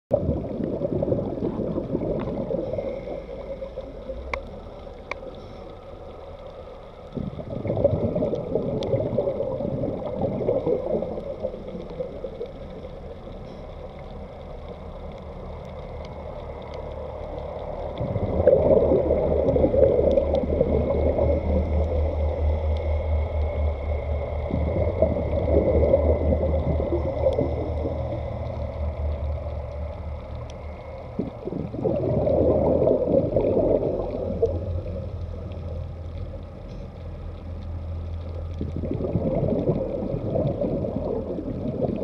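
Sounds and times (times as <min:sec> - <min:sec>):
exhaled bubbles underwater: 0:00.1 - 0:42.0
steady low hum: 0:00.1 - 0:42.0.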